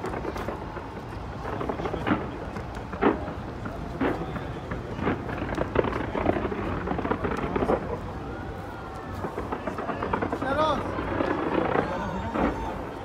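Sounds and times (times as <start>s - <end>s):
fireworks bangs and crackles: 0.0s - 13.0s
low thunder-like rumble: 0.0s - 13.0s.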